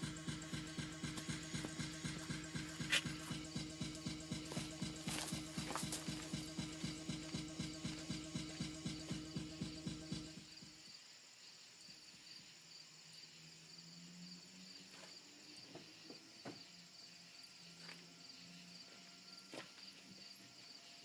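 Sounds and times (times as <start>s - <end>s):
faint cricket chirping: 0.0s - 21.0s.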